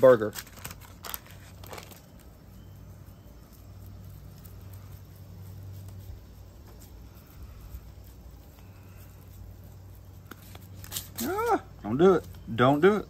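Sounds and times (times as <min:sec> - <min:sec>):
hands shaping ground meat: 0:00.0 - 0:13.0.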